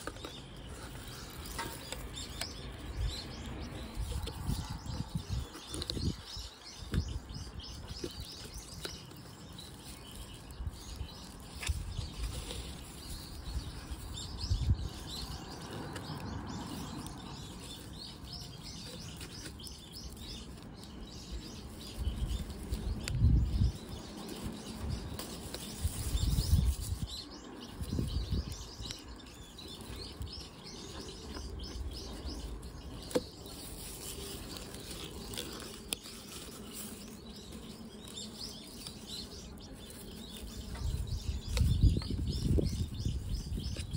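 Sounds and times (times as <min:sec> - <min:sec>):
rustling of soil and roots: 0:00.0 - 0:43.9
small birds chirping: 0:00.0 - 0:43.9.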